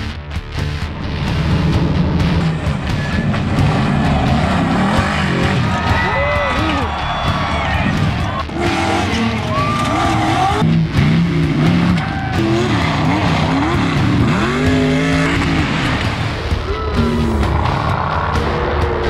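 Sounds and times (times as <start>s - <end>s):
buggy engines revving hard: 0.8s - 19.0s.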